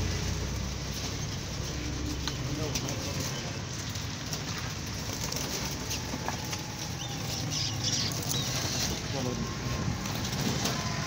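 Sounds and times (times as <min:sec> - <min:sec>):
birds' wings flapping: 0:00.0 - 0:11.0.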